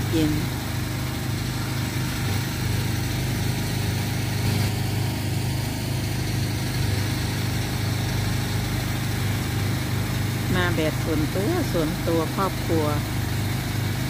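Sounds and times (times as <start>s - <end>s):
generator humming: 0.0s - 14.0s.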